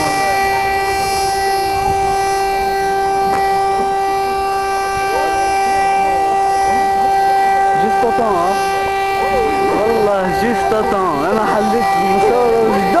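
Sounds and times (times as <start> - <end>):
faint voices: 0.0 - 13.0
steady warning siren: 0.0 - 13.0.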